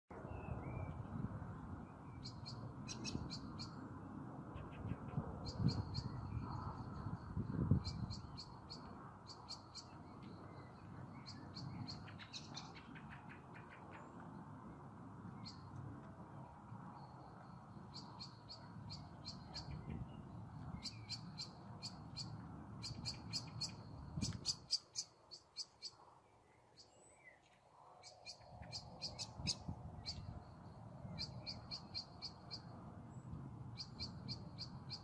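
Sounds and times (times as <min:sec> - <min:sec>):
low rushing wind: 0:00.1 - 0:35.0
small birds chirping: 0:01.9 - 0:03.8, 0:04.6 - 0:35.0.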